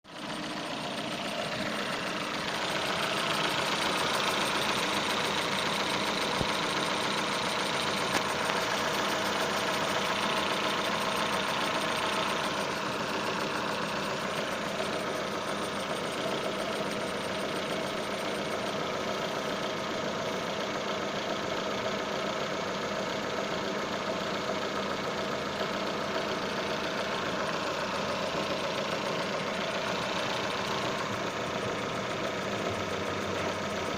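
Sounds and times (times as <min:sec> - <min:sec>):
engine running: 0:00.0 - 0:33.9
drive belt whistling: 0:00.1 - 0:22.0, 0:23.5 - 0:33.9.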